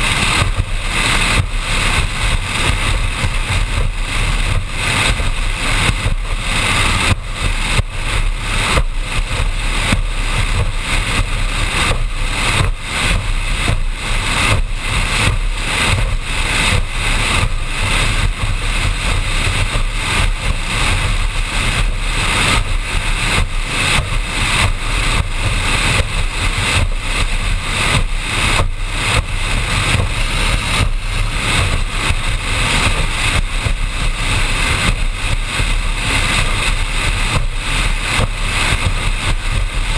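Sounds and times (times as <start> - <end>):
powerboat engine drone: 0.0 - 39.9
water rushing along hull: 0.0 - 39.9.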